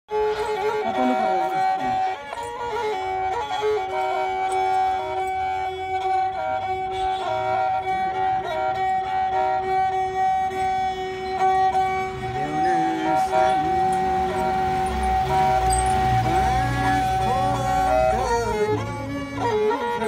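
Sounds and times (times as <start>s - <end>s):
bowed fiddle folk melody: 0.1s - 20.0s
held drone note: 0.1s - 20.0s.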